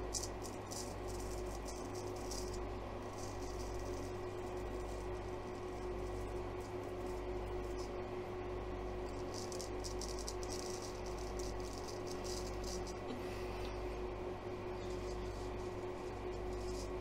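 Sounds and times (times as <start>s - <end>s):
razor scraping stubble: 0.0s - 8.0s, 9.0s - 13.2s, 14.8s - 17.0s
fan humming: 0.0s - 17.0s.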